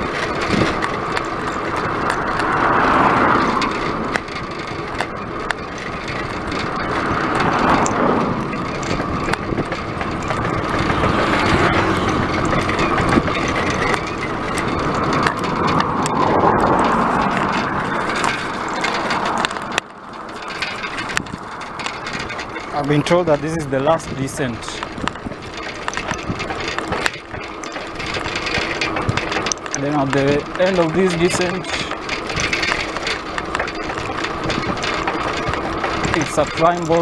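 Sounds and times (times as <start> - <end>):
bicycle clicks and rattles: 0.0 - 37.0
wind and tyre noise: 0.0 - 37.0.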